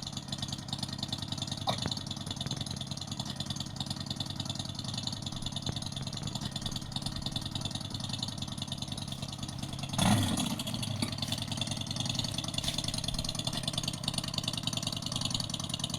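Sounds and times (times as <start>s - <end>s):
simulated motorcycle engine rumble: 0.0s - 15.9s.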